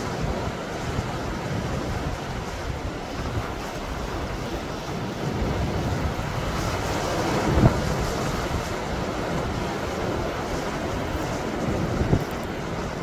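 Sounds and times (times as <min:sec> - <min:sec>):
sea waves breaking on rocks: 0:00.0 - 0:13.0
wind buffeting the microphone: 0:00.0 - 0:13.0.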